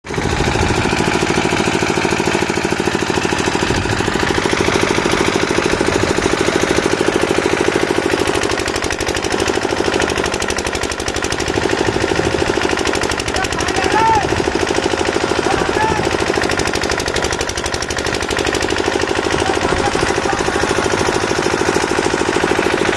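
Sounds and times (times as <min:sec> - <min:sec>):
power hammer rattling: 0:00.1 - 0:22.9.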